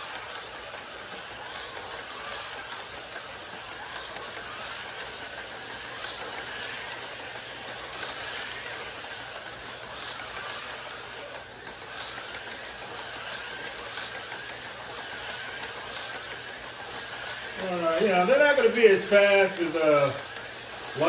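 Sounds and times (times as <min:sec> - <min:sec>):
hiss of cars in slots: 0:00.0 - 0:21.0
slot car motor whine: 0:00.0 - 0:21.0.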